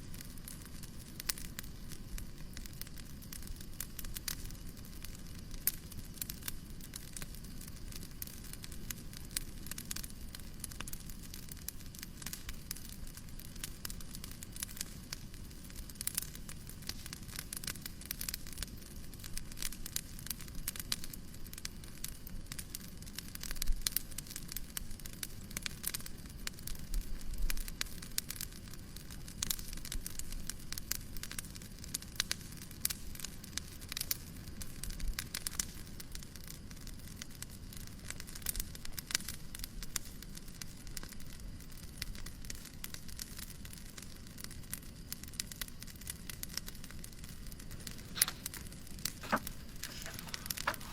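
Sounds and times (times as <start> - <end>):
low fire rumble: 0.0 - 50.9
wood fire crackling: 0.0 - 50.9.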